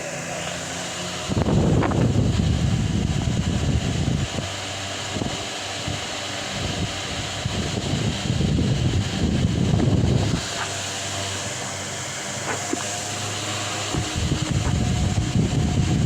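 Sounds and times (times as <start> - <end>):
airflow buffeting microphone: 0.0 - 16.0
fan motor hum: 0.0 - 16.0.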